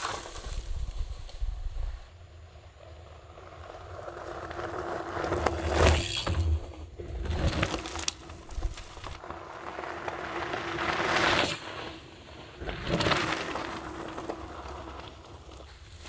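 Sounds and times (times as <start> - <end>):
bike tyres rolling over dirt: 0.0 - 16.0.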